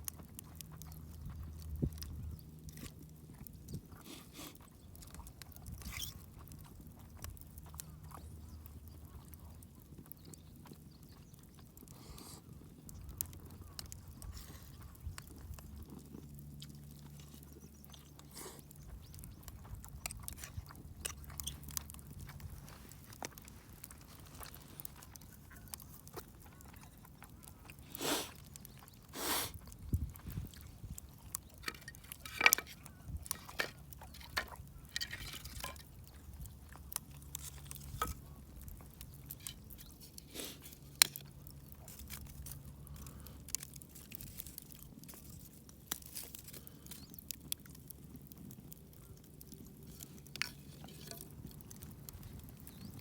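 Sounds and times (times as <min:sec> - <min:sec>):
person chewing: 0:00.0 - 0:52.9.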